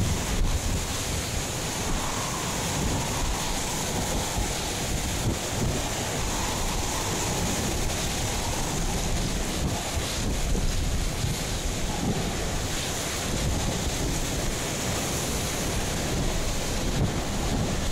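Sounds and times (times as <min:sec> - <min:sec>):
heavy rain: 0:00.0 - 0:17.9
strong wind blowing: 0:00.0 - 0:17.9
wind buffeting microphone: 0:00.0 - 0:17.9.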